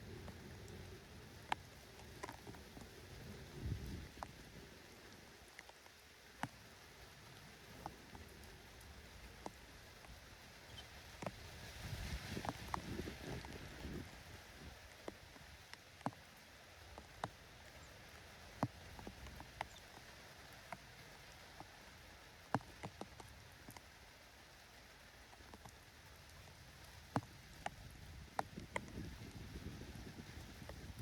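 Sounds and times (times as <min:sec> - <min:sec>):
light rain hiss: 0:00.0 - 0:31.0
raindrops tapping hard surfaces: 0:00.0 - 0:31.0.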